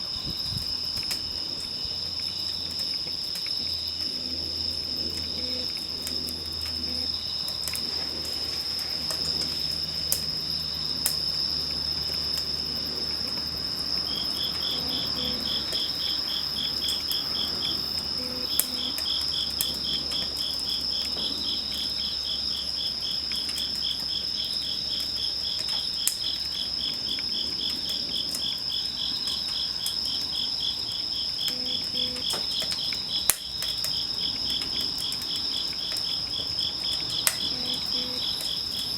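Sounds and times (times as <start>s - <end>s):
high steady insect trill: 0.0s - 38.9s
rhythmic insect chirp: 0.0s - 38.9s
wood fire crackling: 0.0s - 38.9s.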